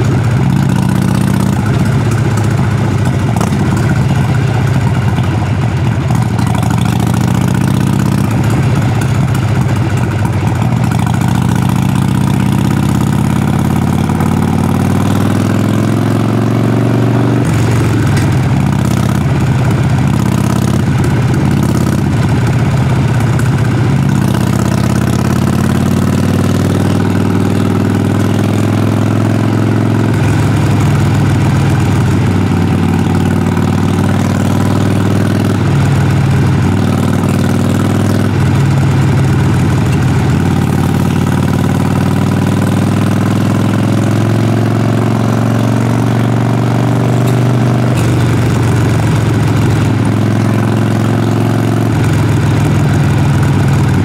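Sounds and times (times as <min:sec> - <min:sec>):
motorcycle exhaust revving: 0:00.0 - 0:54.0.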